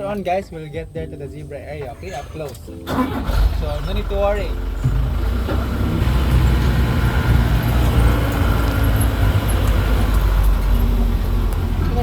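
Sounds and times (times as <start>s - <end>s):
vehicle engine rumbling: 1.6s - 12.0s.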